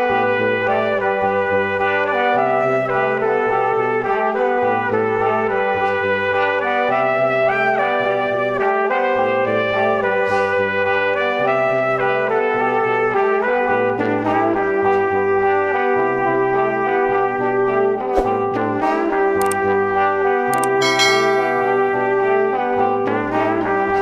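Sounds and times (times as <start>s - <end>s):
instrumental tune with brass tones: 0.0s - 24.0s.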